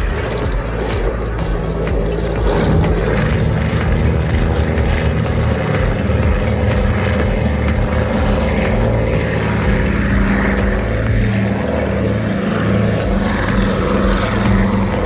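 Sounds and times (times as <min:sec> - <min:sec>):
aircraft piston engines droning: 0:00.0 - 0:15.0.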